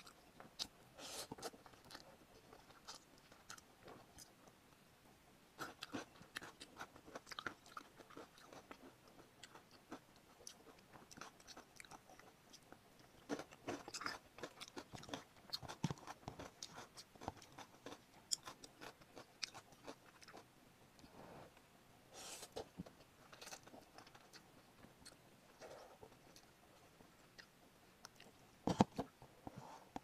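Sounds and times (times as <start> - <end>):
chewing crunchy food: 0.0 - 4.5, 5.6 - 20.5, 22.9 - 29.1.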